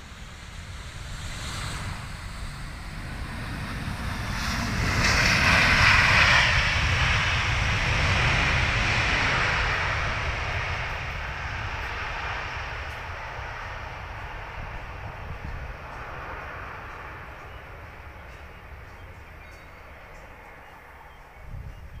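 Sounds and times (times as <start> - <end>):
jet engines on landing roll: 0.0 - 22.0.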